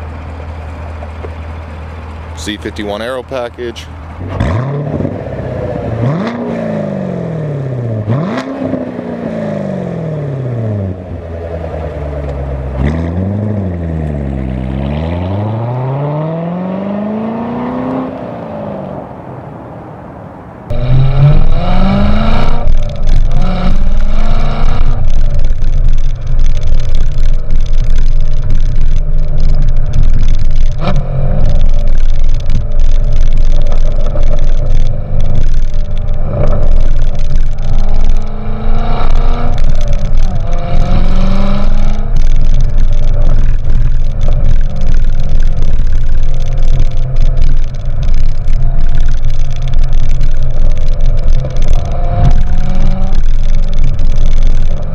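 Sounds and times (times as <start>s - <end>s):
car engine accelerating: 0.0s - 19.7s, 20.6s - 54.9s.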